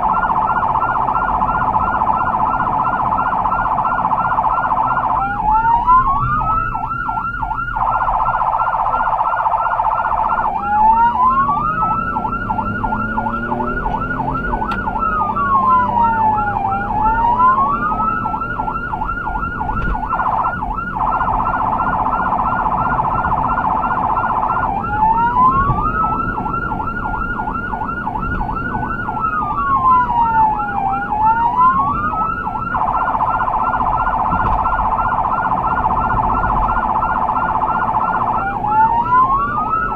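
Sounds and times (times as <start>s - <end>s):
emergency siren warble: 0.0s - 39.9s
engine and road noise: 0.0s - 39.9s
siren wail: 0.0s - 39.9s.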